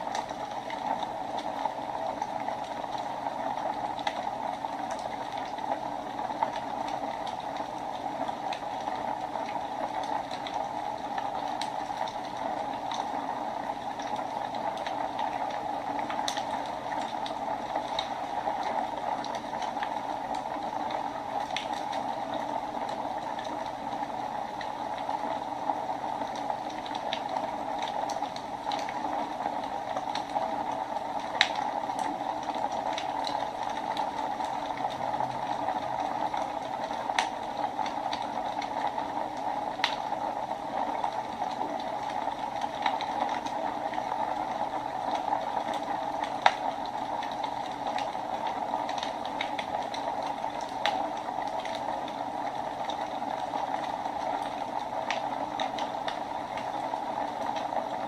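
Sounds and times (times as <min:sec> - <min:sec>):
fire crackling and popping: 0:00.0 - 0:58.0
fire hissing in a fireplace: 0:00.0 - 0:58.0.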